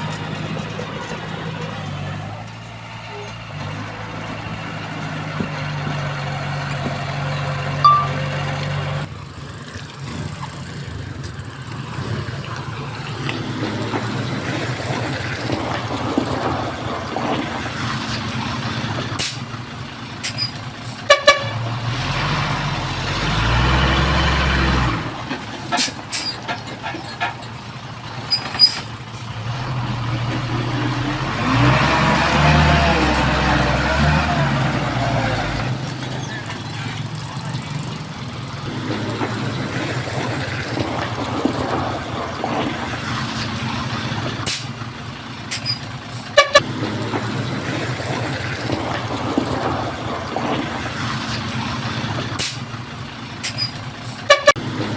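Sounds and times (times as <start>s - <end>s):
diesel machinery engine drone: 0.0s - 54.9s.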